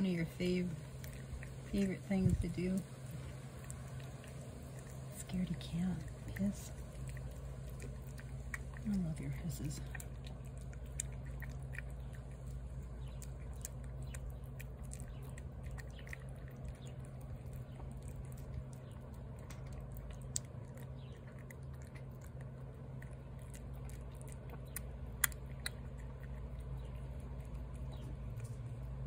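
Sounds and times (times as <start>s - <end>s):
cat chewing and lapping food: 0.0s - 29.0s
low background hum: 0.0s - 29.0s.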